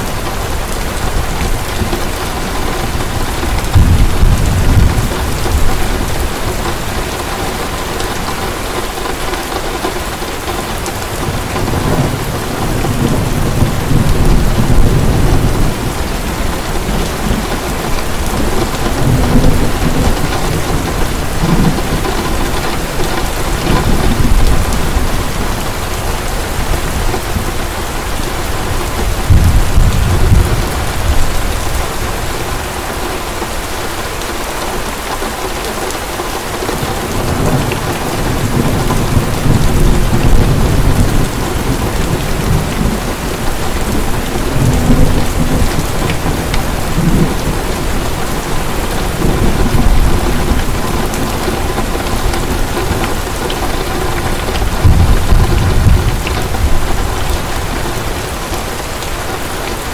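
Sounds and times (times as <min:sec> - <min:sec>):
heavy rain falling: 0:00.0 - 0:59.9
low rolls of thunder: 0:00.4 - 0:06.9, 0:11.1 - 0:32.5, 0:36.8 - 0:58.5.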